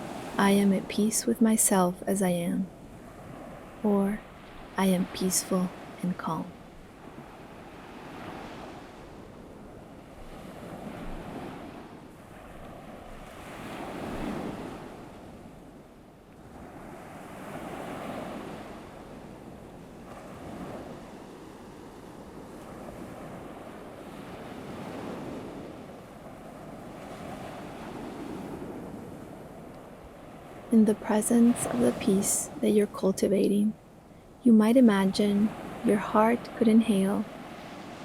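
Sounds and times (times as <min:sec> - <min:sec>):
ocean waves washing on shore: 0:00.0 - 0:38.0.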